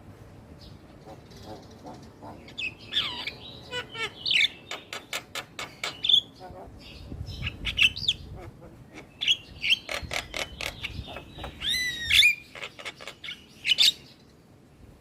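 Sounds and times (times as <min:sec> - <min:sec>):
myna bird singing: 0:00.6 - 0:14.5.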